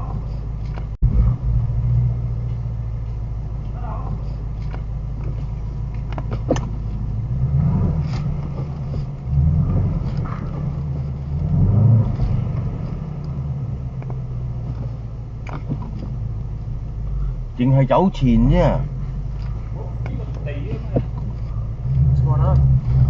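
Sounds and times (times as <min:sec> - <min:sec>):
car engine at low revs: 0:00.0 - 0:23.0.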